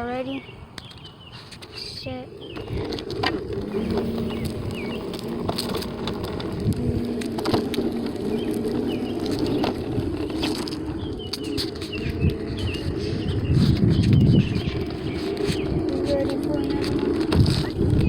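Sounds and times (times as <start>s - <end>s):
hoverboard rolling over rough ground: 0.0s - 18.0s
small birds chirping: 0.0s - 18.0s.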